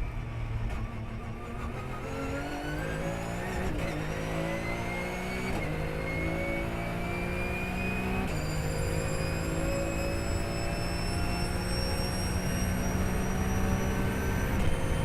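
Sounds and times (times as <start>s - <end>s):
race car engine accelerating: 0.2s - 15.0s.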